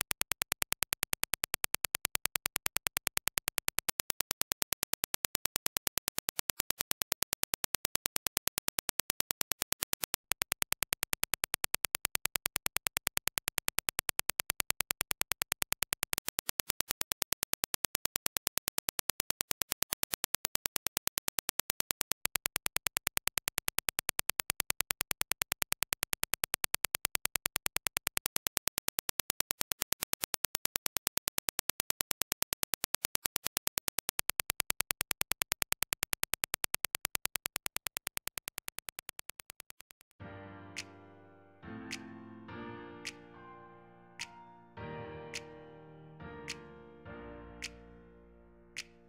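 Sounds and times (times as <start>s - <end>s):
rapid train of sharp clicks: 0.0s - 40.2s.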